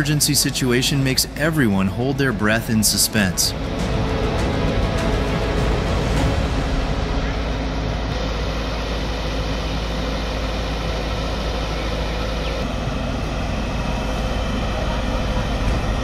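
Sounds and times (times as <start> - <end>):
heavy machinery engine rumble: 0.0 - 16.0.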